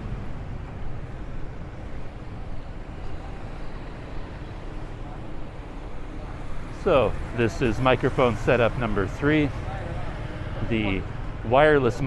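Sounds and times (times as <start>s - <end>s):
low rumble of cars and motorbikes: 0.0s - 12.0s.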